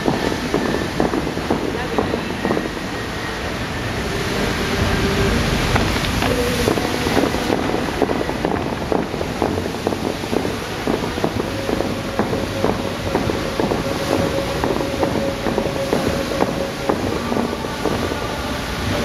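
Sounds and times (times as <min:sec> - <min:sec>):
fountain water rushing and splashing: 0:00.0 - 0:19.0
wind buffeting microphone: 0:00.0 - 0:19.0.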